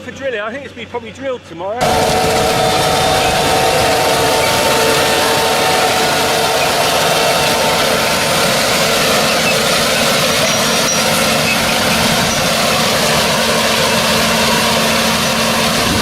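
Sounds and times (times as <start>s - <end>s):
tractor engine running: 1.8s - 16.0s.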